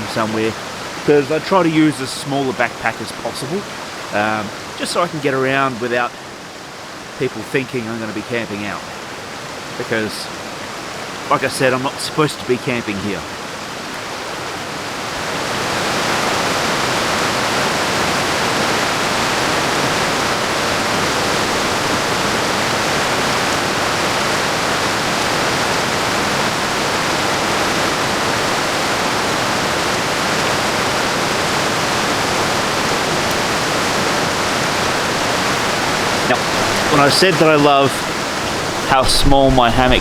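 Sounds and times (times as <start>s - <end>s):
waterfall and creek rushing: 0.0s - 40.0s.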